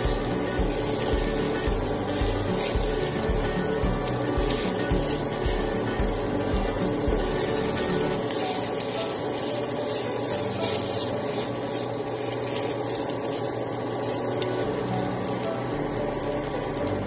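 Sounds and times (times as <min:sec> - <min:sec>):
fried rice sizzling in a pan: 0:00.0 - 0:17.0
steady hum: 0:00.0 - 0:17.0.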